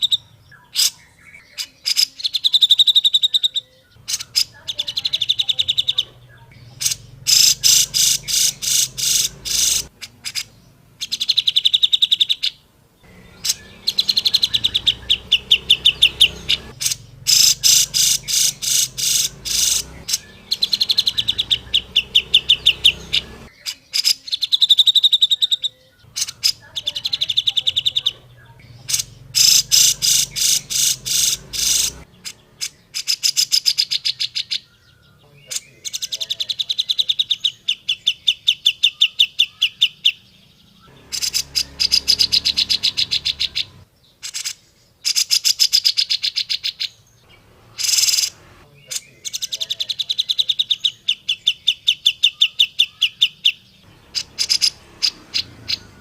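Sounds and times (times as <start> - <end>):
bulbul singing trilled notes: 0.0 - 56.0.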